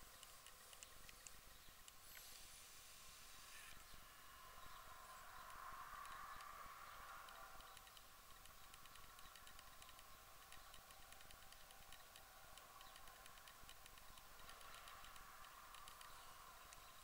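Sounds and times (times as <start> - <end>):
faint steady hiss: 0.0 - 17.0
small irregular ticks: 0.0 - 17.0.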